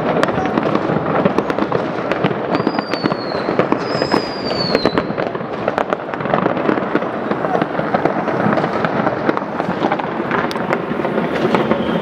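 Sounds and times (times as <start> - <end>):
fireworks bangs and crackles: 0.0 - 12.0
whistling fireworks: 0.0 - 12.0.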